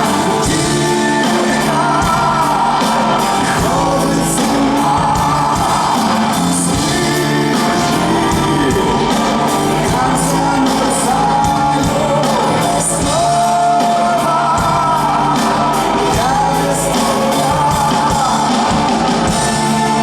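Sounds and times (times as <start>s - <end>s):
live band music: 0.0s - 20.0s
person singing long notes: 0.0s - 20.0s.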